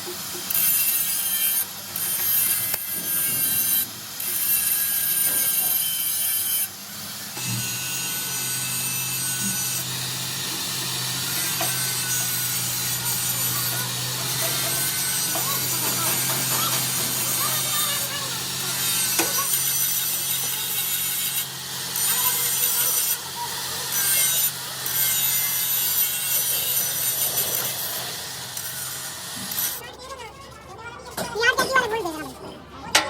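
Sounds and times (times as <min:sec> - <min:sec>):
metal rasping strokes: 0:00.0 - 0:29.9
machine motor humming: 0:01.9 - 0:29.8.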